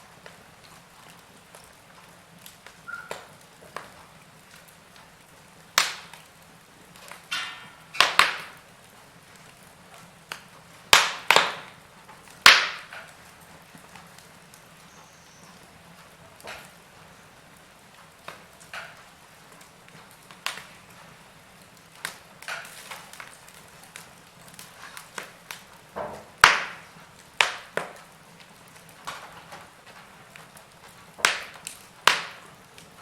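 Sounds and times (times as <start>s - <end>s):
fire pops and snaps: 0.0s - 33.0s
logs burning quietly: 0.0s - 33.0s.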